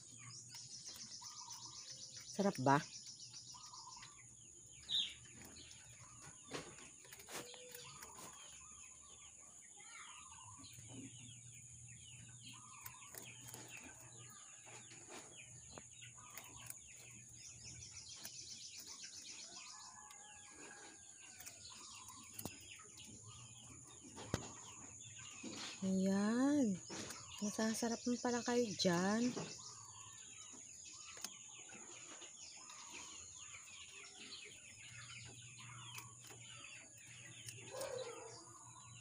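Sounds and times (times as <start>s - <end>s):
rabbits gnawing: 0.0s - 39.0s.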